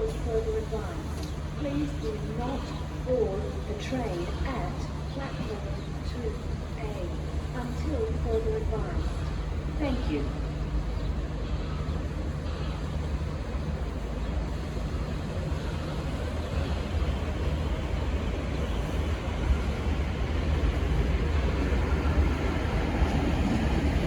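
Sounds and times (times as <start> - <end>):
diesel train engines rumbling: 0.0 - 24.0.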